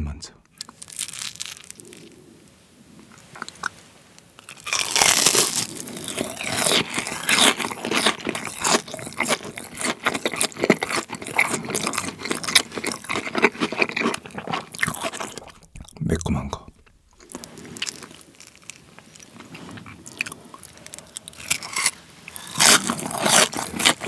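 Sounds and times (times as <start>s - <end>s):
crisp chewing: 0.5s - 2.3s, 3.0s - 16.0s, 16.6s - 24.0s
crunchy bite into fried food: 0.6s - 2.2s, 4.4s - 15.7s, 17.2s - 24.0s.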